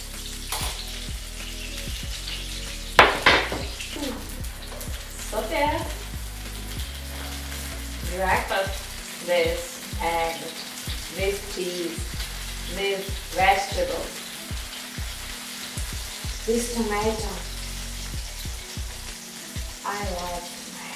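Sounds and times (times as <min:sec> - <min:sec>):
spatula and fork turning food: 0:00.0 - 0:20.9
vegetables sizzling in oil: 0:00.0 - 0:20.9.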